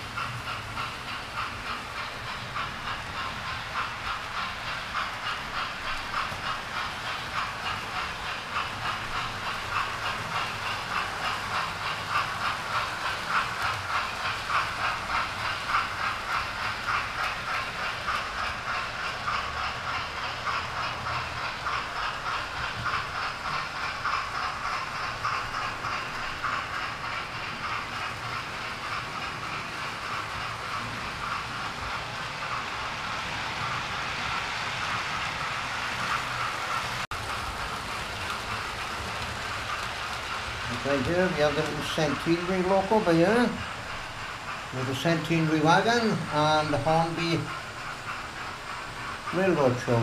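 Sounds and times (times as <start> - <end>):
model train wheels clicking: 0.0 - 50.0.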